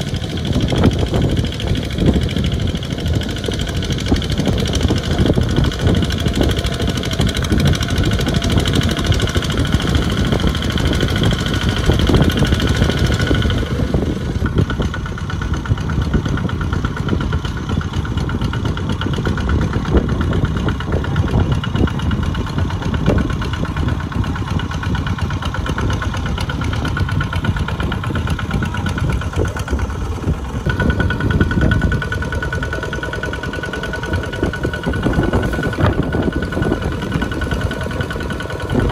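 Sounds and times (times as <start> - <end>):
diesel engine knocking: 0.0 - 38.9
wheels churning through mud: 0.0 - 38.9.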